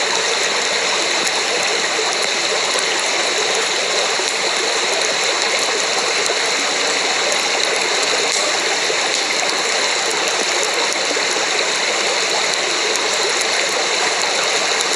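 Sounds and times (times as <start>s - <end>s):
rushing water: 0.0s - 14.9s.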